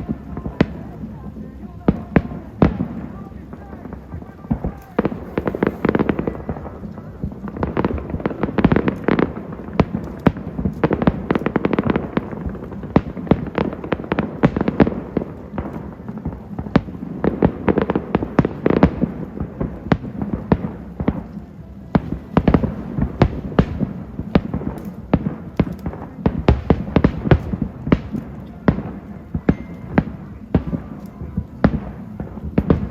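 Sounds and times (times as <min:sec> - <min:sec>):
constant rumble: 0:00.0 - 0:32.9
fireworks cracks and bangs: 0:00.0 - 0:32.9.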